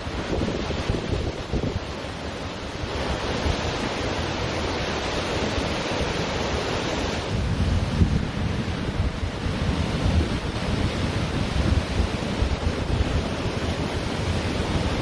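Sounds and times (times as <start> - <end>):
ocean waves washing on beach: 0.0 - 15.0
wind buffeting microphone: 0.0 - 15.0.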